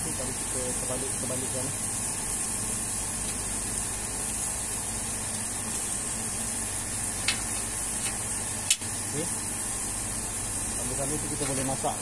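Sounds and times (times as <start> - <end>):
burger patties sizzling on griddle: 0.0 - 12.0.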